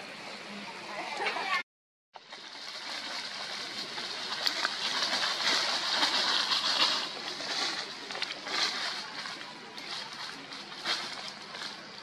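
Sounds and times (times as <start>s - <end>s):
dry leaves rustling and crackling: 2.2s - 12.0s.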